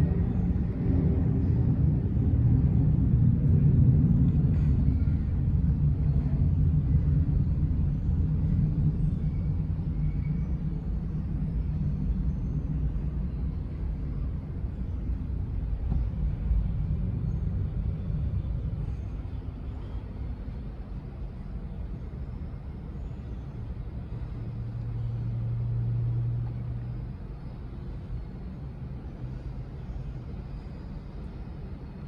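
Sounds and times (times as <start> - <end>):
jet engines rumbling on take-off: 0.0 - 32.0.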